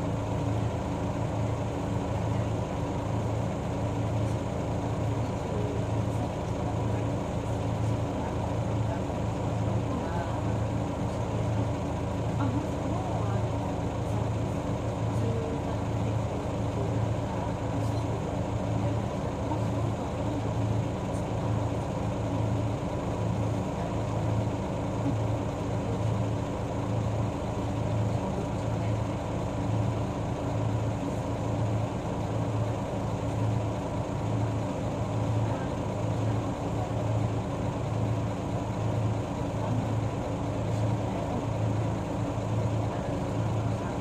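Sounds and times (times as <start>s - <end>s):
bus diesel engine running: 0.0s - 44.0s.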